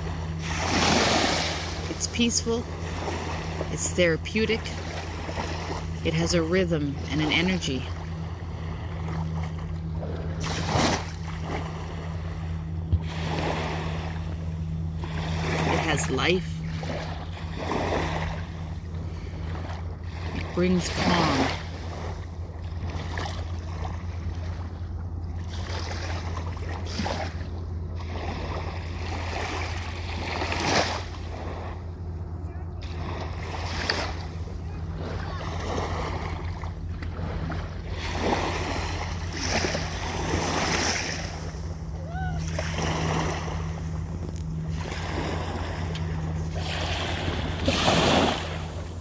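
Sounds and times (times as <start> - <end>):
ocean waves washing in: 0.0 - 49.0
steady low hum: 0.0 - 49.0
steady low rumble: 0.0 - 49.0.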